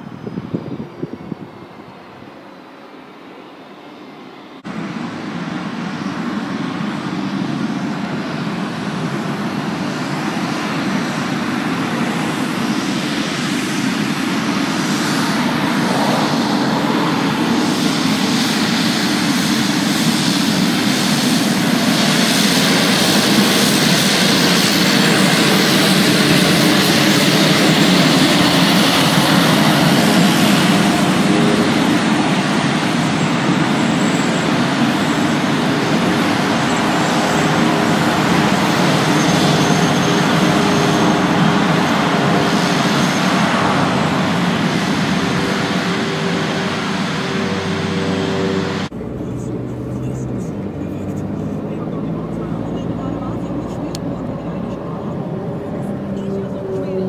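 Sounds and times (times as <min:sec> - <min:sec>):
turboprop engine running: 0:00.0 - 0:57.0.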